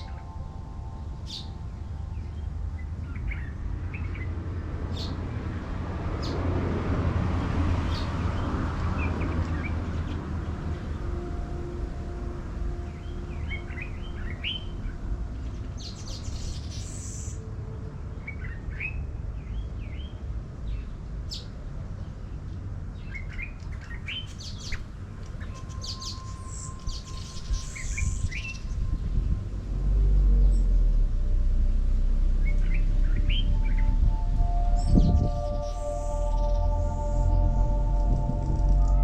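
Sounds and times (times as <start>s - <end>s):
low background rumble: 0.0s - 21.2s, 24.8s - 39.0s.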